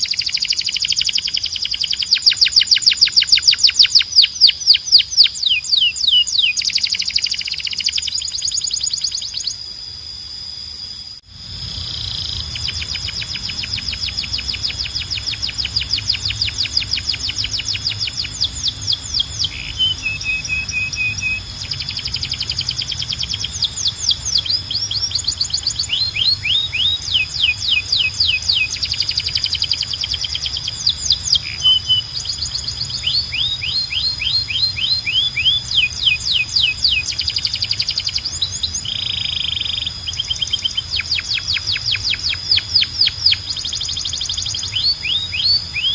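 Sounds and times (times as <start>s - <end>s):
canary singing trills: 0.0s - 10.2s, 10.9s - 45.9s.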